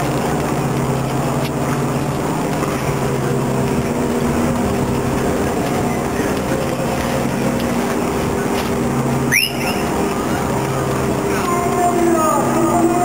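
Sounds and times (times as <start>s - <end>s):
engine drone with steady tones: 0.0s - 13.0s.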